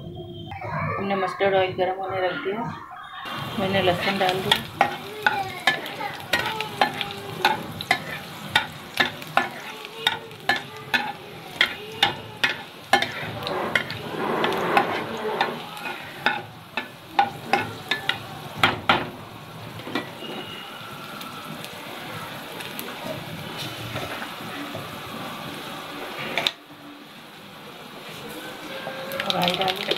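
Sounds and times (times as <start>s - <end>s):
garlic sizzling in hot oil: 3.2s - 29.9s.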